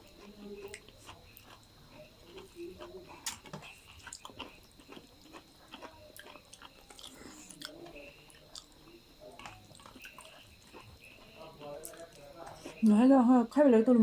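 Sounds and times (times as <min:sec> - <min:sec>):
chewing with clicks and smacks: 0:00.0 - 0:13.0
faint high-pitched whine: 0:00.0 - 0:14.0.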